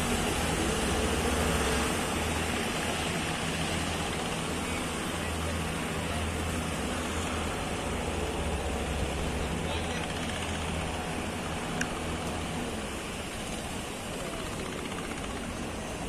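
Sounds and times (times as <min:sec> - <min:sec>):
fishing boat engines droning: 0:00.0 - 0:16.0
rushing surf: 0:00.0 - 0:16.0.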